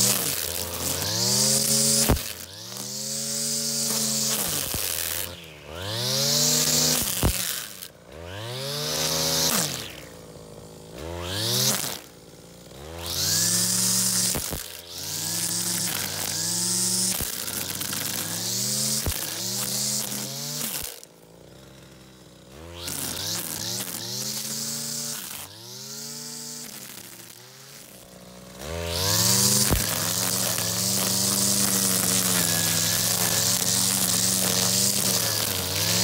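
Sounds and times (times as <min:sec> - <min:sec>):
brushcutter engine revving: 0:00.0 - 0:36.0
trimmer line cutting grass: 0:00.0 - 0:36.0.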